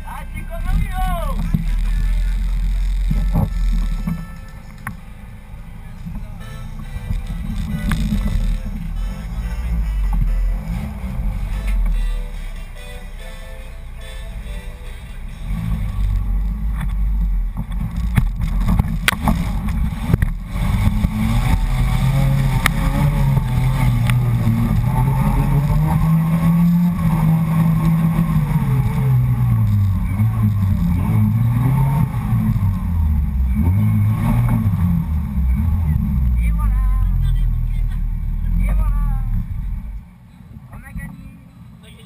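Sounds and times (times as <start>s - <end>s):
low rumble: 0.0s - 41.5s
off-road engine under load: 0.0s - 42.0s.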